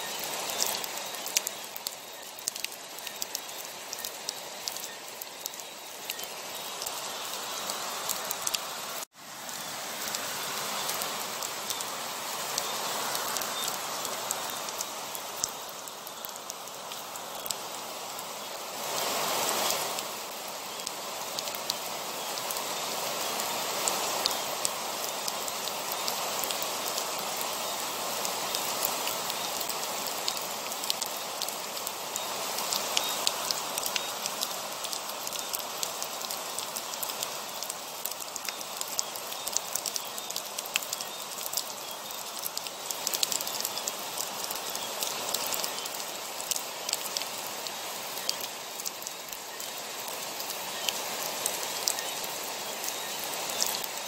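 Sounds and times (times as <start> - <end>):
raindrops ticking on a surface: 0.0 - 9.2, 10.0 - 54.0
heavy rain: 0.0 - 54.0.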